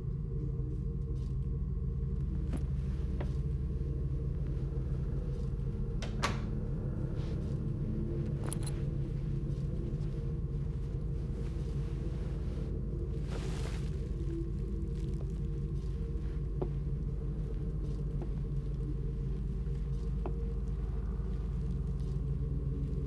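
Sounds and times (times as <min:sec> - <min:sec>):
low rumbling drone: 0:00.0 - 0:23.0.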